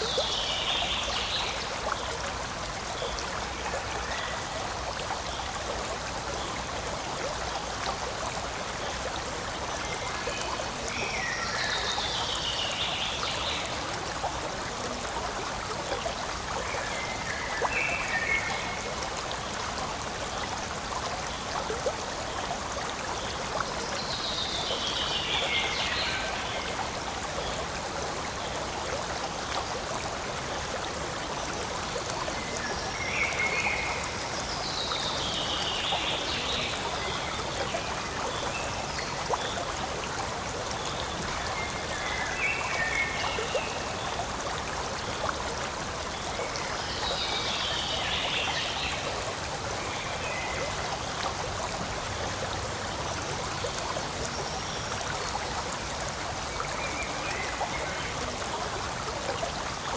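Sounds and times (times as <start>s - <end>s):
stream flowing and trickling: 0.0s - 59.9s.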